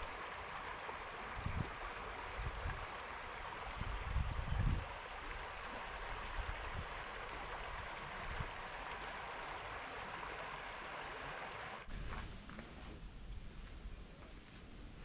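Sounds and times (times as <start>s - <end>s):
quiet outdoor ambience: 0.0s - 15.0s.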